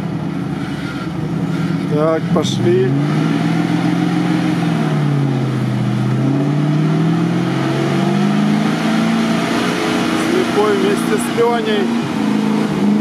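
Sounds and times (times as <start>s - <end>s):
truck engine working under load: 0.0s - 13.0s.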